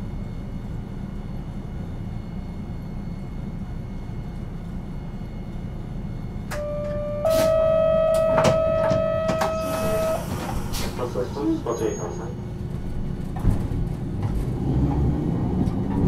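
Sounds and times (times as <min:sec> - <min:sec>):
streetcar low rumble: 0:00.0 - 0:16.0.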